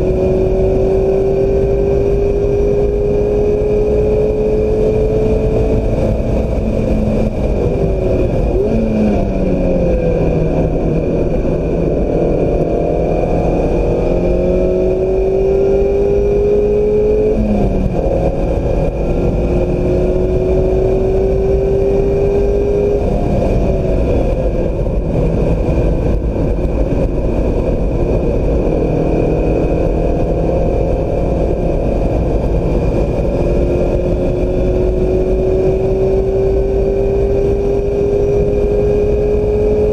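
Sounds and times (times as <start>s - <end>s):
car engine revving through gears: 0.0s - 39.9s
wind noise: 0.0s - 39.9s.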